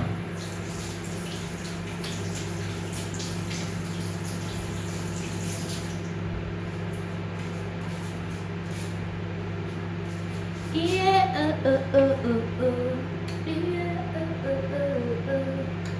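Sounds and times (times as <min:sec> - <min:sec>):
electrical appliance hum: 0:00.0 - 0:15.9.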